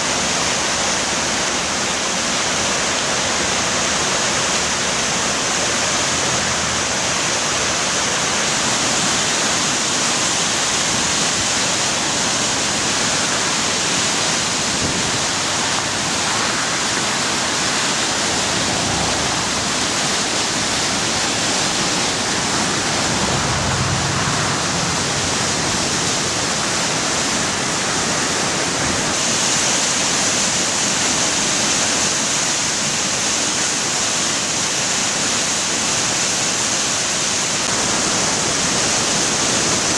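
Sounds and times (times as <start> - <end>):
floodwater rushing through rapids: 0.0 - 39.9.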